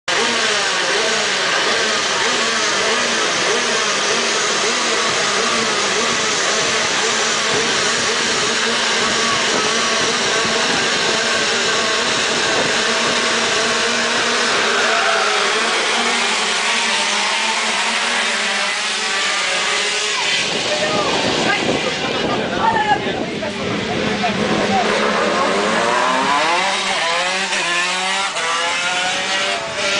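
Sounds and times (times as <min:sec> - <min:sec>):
kart engines revving: 0:00.0 - 0:29.9.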